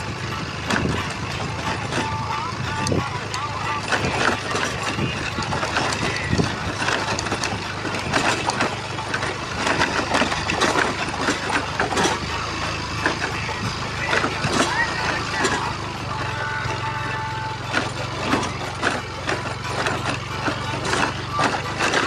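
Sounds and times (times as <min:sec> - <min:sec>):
knocks and rattles: 0:00.0 - 0:22.0
vehicle engine running: 0:00.0 - 0:22.0.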